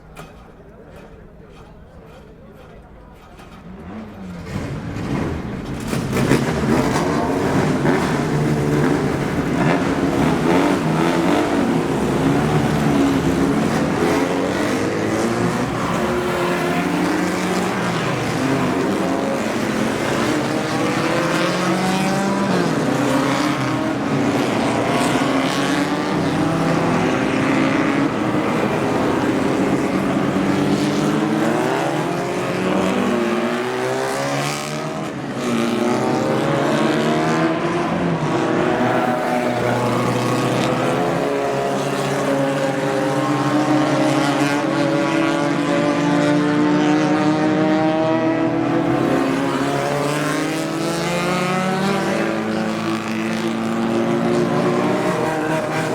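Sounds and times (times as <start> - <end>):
racing car engines revving: 0.0 - 55.9.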